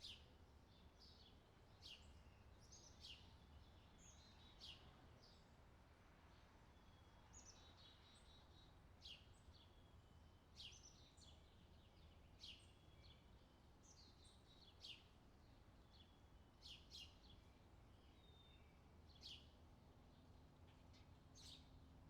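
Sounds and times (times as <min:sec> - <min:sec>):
low steady background noise: 0:00.0 - 0:22.0.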